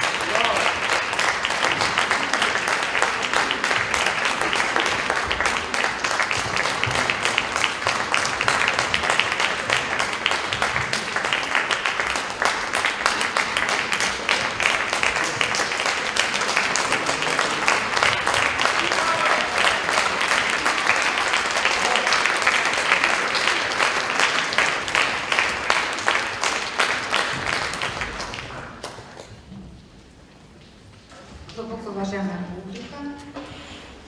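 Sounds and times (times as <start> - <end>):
audience applauding: 0.0 - 29.4.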